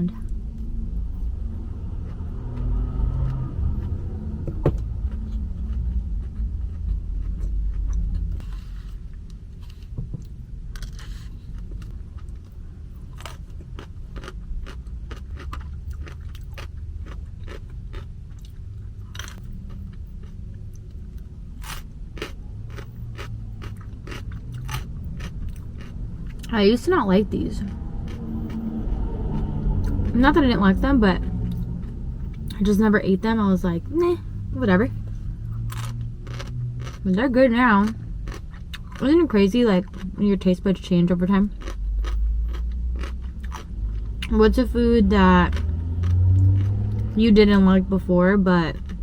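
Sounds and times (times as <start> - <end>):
chewing and crunching food: 1.9 - 30.4, 35.0 - 44.3, 45.1 - 47.2, 48.6 - 49.0.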